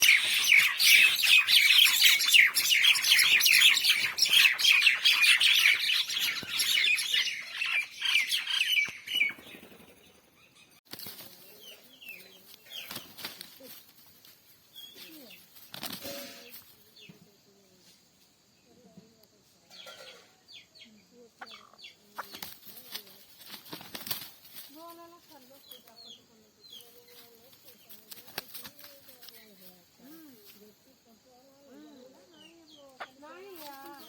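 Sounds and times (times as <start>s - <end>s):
mynah birds chattering: 0.0s - 15.6s, 19.7s - 34.0s.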